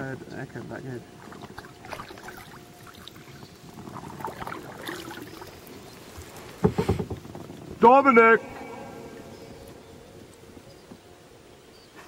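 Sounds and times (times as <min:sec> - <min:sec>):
paddle and hull on water: 0:00.0 - 0:12.0.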